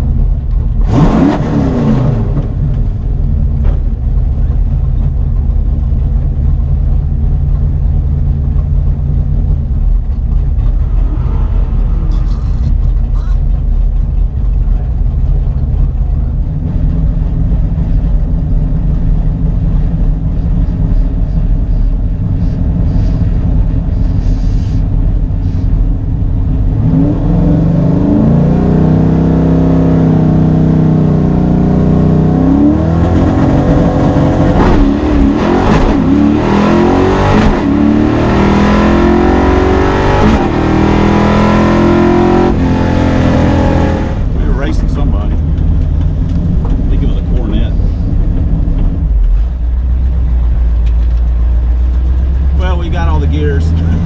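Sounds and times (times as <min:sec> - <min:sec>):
car engine rumbling and accelerating: 0:00.0 - 0:54.0.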